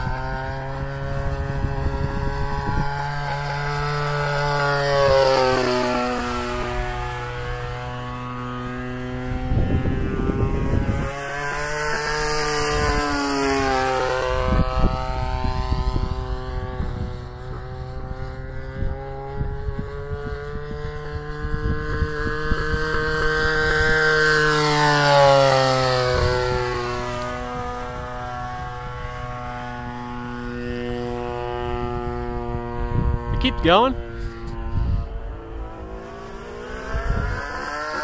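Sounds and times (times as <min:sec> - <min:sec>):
model airplane engine in flight: 0:00.0 - 0:38.0.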